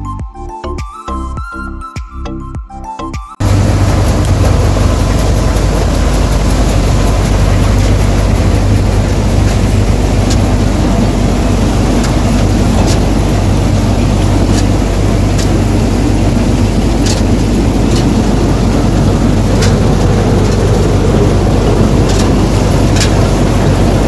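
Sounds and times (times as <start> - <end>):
combine harvester engine drone: 3.4 - 24.0.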